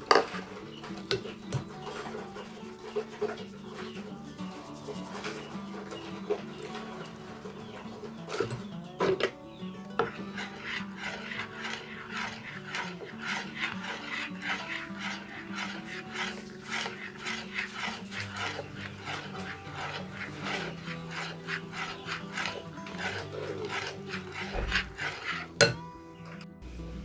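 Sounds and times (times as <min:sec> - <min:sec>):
batter scraping in glass bowl: 0:00.0 - 0:08.6, 0:09.9 - 0:25.8.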